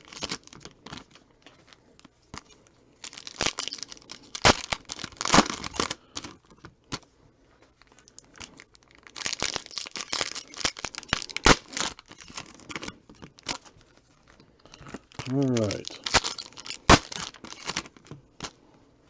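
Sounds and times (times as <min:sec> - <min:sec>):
wrappers torn and crumpled: 0:00.0 - 0:07.0, 0:07.8 - 0:18.6.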